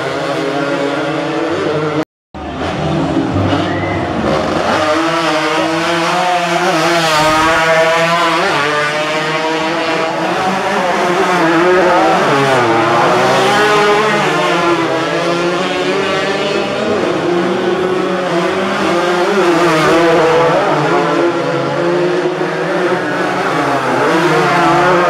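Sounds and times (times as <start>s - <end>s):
motorcycle engines revving past: 0.0s - 25.0s.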